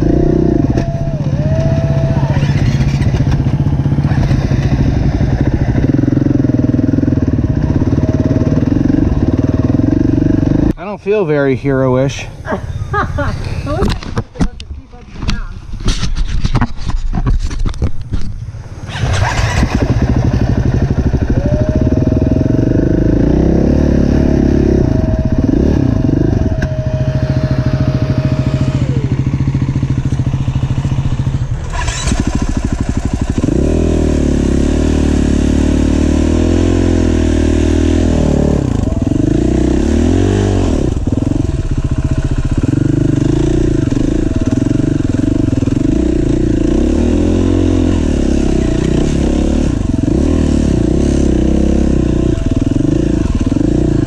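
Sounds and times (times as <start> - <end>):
motorcycle engine revving: 0.0 - 10.9, 18.6 - 54.0.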